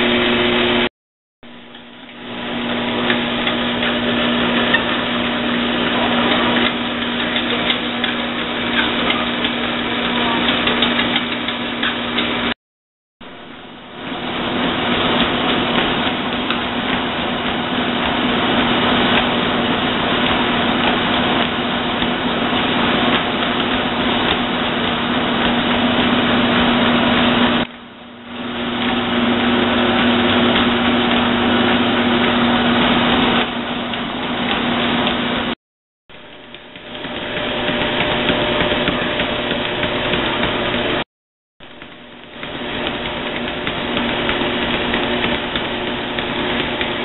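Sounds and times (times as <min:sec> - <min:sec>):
treadmill motor hum: 0:01.5 - 0:12.6, 0:13.2 - 0:41.0, 0:41.6 - 0:47.0.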